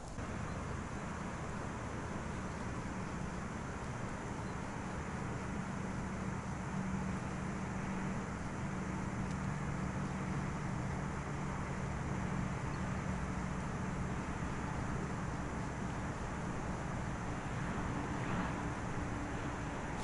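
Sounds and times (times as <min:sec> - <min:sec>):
distant traffic drone: 0:00.0 - 0:20.0
outdoor hiss: 0:00.0 - 0:20.0.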